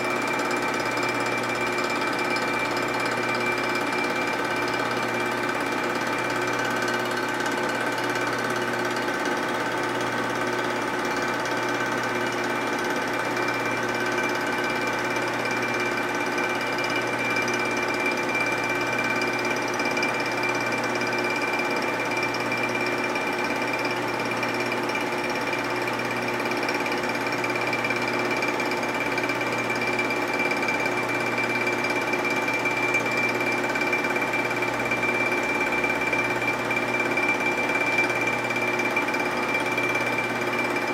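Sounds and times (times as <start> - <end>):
milling machine cutting with whine: 0.0 - 40.9.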